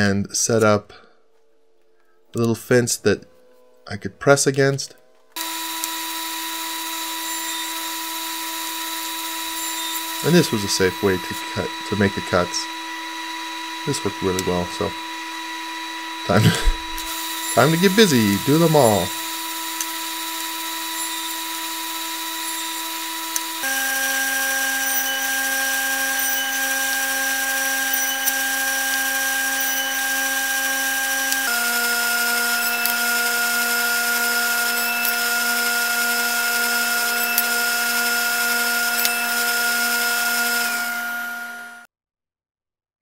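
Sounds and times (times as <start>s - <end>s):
table saw whining: 4.5s - 41.9s.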